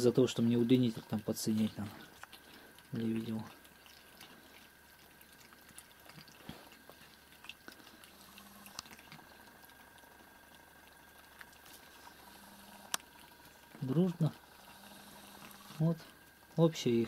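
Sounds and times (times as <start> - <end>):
cats chewing: 0.0 - 17.0.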